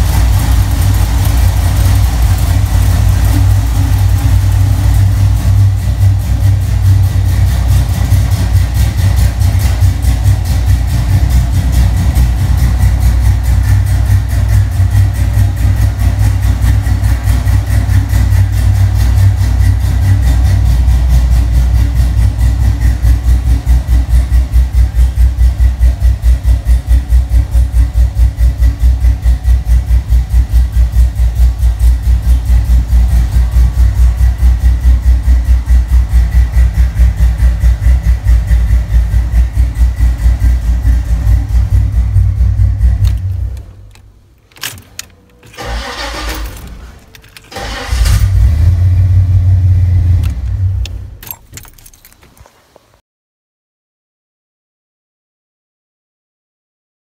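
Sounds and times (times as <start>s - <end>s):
car engine idling: 0.0s - 52.5s.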